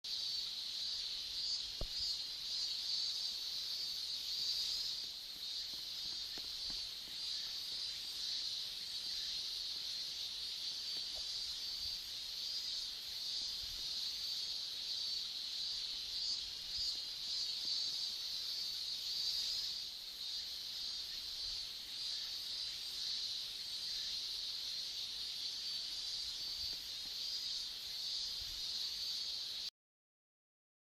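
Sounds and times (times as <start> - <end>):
insects trilling: 0.0 - 29.7.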